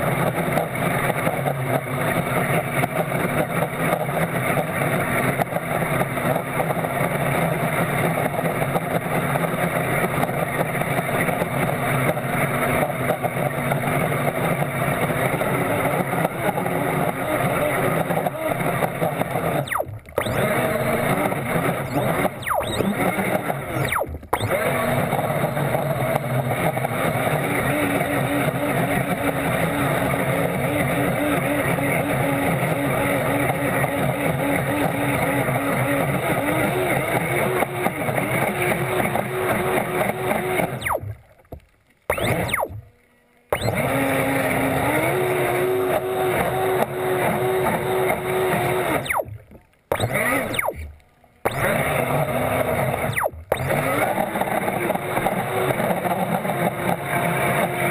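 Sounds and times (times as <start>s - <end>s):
speedboat motor: 0.0s - 57.9s
regular pulsing: 1.8s - 56.8s.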